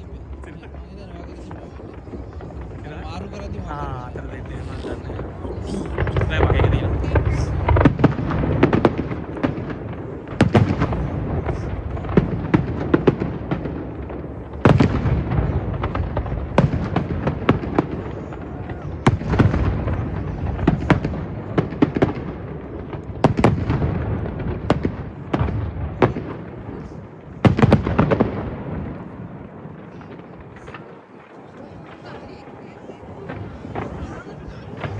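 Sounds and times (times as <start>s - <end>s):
fireworks bangs and crackling: 0.0s - 34.9s
rumbling echo: 0.0s - 34.9s.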